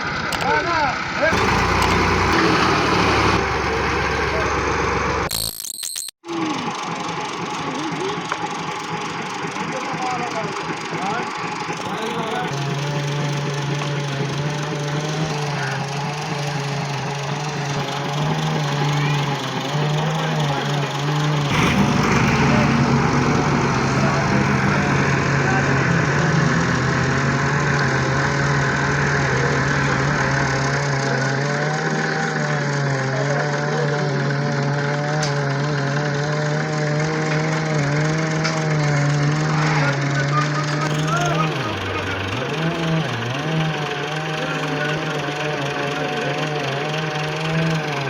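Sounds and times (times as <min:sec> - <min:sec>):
tractor engine running: 0:00.0 - 0:05.5, 0:06.3 - 0:48.0.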